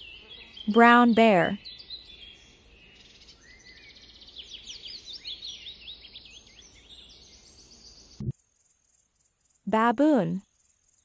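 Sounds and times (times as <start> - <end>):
faint outdoor background noise: 0.0 - 11.0
small bird chirping: 0.0 - 11.0.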